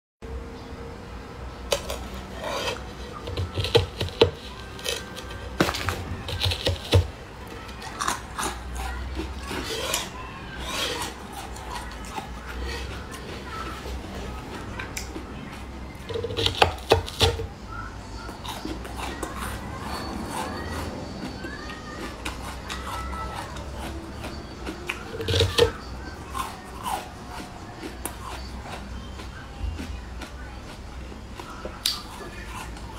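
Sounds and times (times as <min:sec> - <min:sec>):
chewing: 0:01.7 - 0:17.4, 0:18.2 - 0:32.9.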